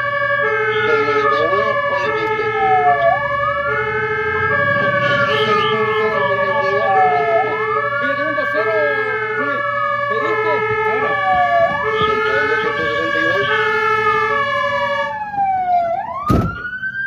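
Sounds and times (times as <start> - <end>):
truck engine rumbling: 0.0 - 17.0
two-tone siren: 0.0 - 17.0
wailing siren: 0.0 - 17.0.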